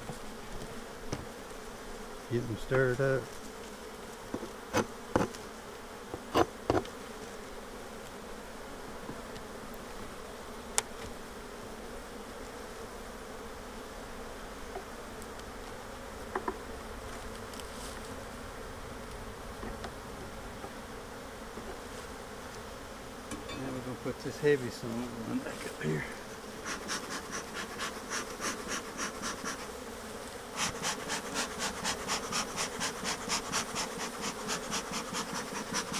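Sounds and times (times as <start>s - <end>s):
honeybees buzzing: 0.0s - 35.9s.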